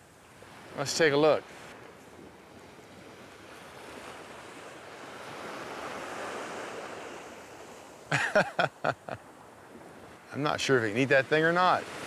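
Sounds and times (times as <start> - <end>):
surf washing onto beach: 0.3 - 12.0.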